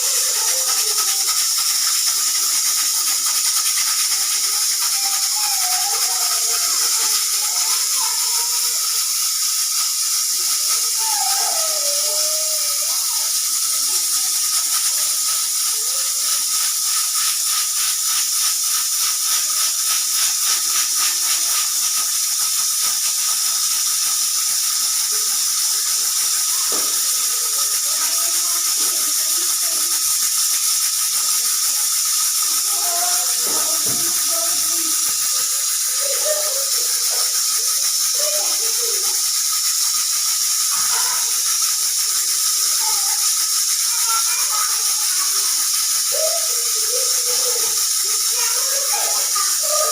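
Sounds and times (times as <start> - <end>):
fast fluttering rattle: 0.0 - 49.9
pressure cooker hissing steam: 0.0 - 49.9.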